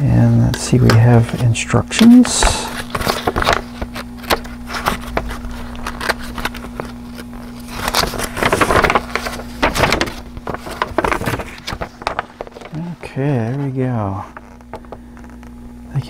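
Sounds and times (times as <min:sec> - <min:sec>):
low steady hum: 0:00.0 - 0:16.0
paper crinkling and rustling: 0:00.7 - 0:15.6.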